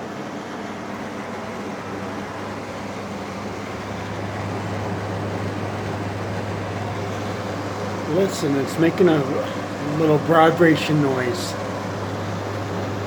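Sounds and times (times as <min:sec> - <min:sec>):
air conditioner airflow: 0:00.0 - 0:13.0
low vibration hum: 0:00.0 - 0:13.0.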